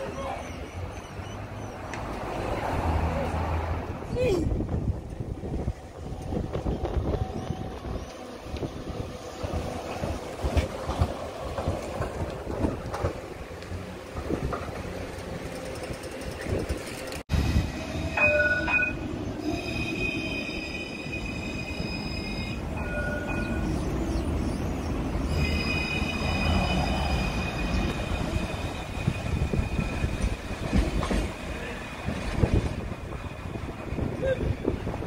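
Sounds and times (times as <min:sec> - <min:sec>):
tram high-pitched whine: 0:00.0 - 0:35.0
tram rumble: 0:00.0 - 0:35.0.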